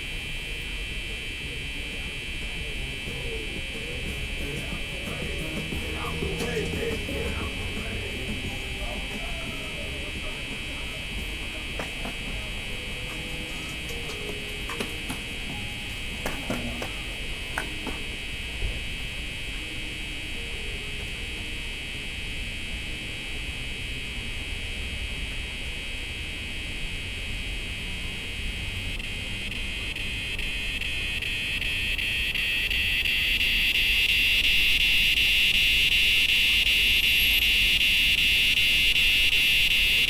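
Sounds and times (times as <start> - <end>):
cicadas buzzing: 0.0 - 20.7, 27.0 - 40.0.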